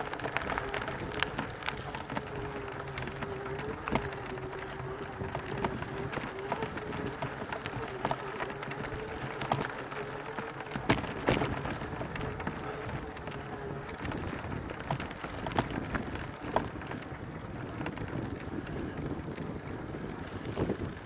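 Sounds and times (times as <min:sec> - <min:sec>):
bike rattling clicks and knocks: 0:00.0 - 0:21.0
wind buffeting microphone: 0:00.0 - 0:21.0.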